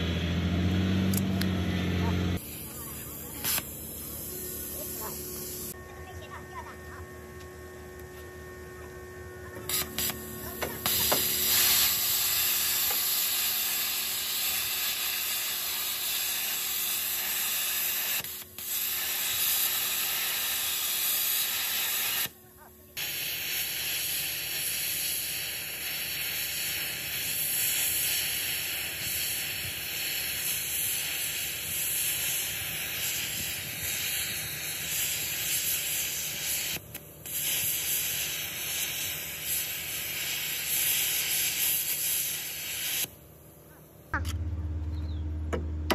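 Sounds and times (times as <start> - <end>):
arc torch hissing and crackling: 2.3 - 5.8, 9.6 - 43.2.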